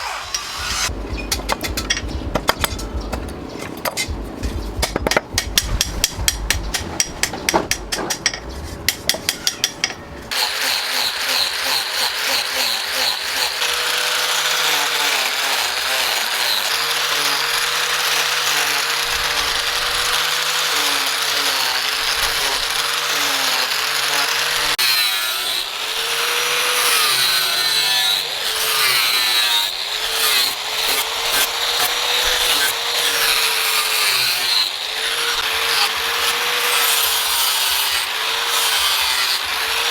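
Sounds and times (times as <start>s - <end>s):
power tool abrading: 0.0s - 3.4s, 9.2s - 39.9s.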